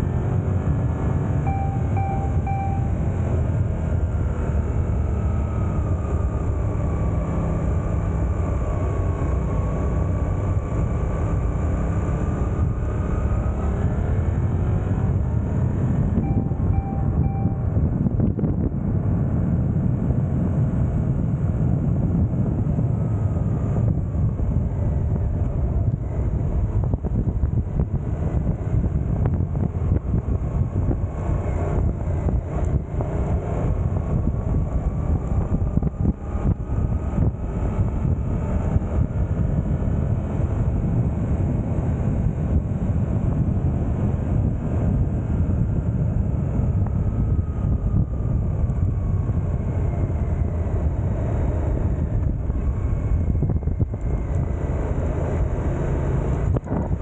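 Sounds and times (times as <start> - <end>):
motorcycle engine at road speed: 0.0 - 57.0
wind rushing over microphone: 0.0 - 57.0.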